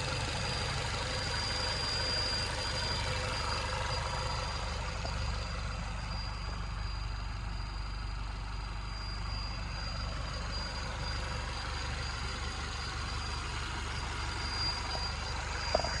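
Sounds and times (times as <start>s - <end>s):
car engine running at low revs: 0.0s - 16.0s
high-pitched whine: 0.0s - 16.0s.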